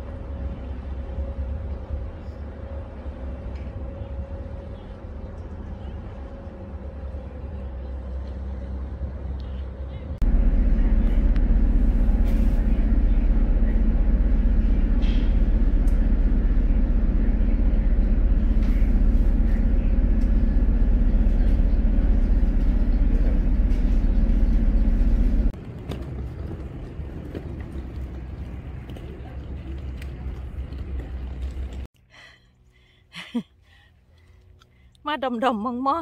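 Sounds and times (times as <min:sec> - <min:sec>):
boat engine rumbling: 0:00.0 - 0:31.9.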